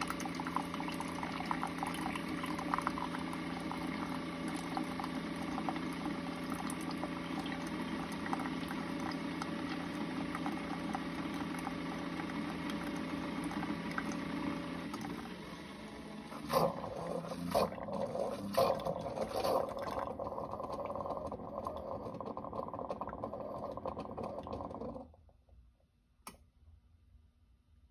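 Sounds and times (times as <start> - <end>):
water pouring into mug: 0.0 - 15.7, 16.4 - 25.0
coffee brewer sputtering: 0.0 - 25.2
coffee brewer pump hum: 0.0 - 25.6.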